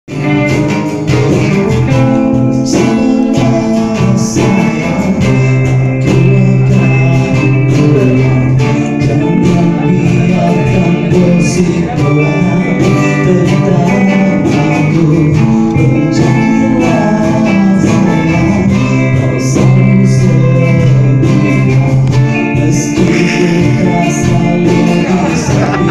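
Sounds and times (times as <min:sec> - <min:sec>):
acoustic guitar: 0:00.1 - 0:25.9
percussion hits: 0:00.1 - 0:25.9
person singing: 0:00.1 - 0:25.9.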